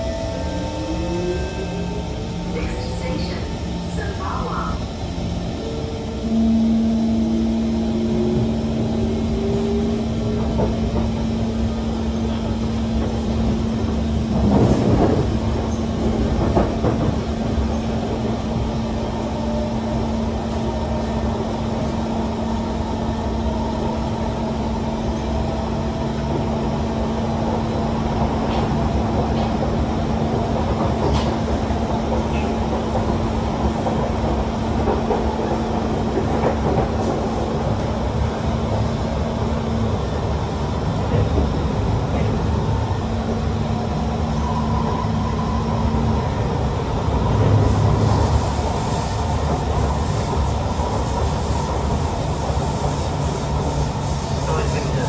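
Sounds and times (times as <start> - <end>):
wheels rumbling on track: 0.0 - 55.0.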